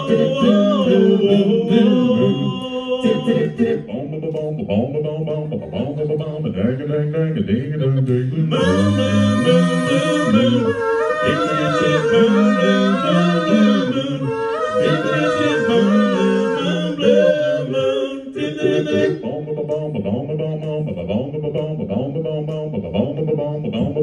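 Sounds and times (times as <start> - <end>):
male a cappella group singing: 0.0 - 24.0.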